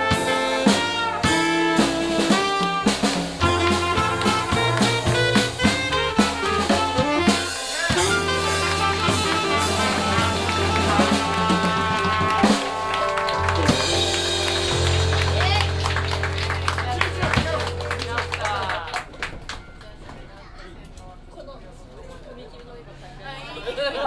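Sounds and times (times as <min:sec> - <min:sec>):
drum rimshots: 0:00.0 - 0:19.8
live jazz band playing: 0:00.0 - 0:20.2.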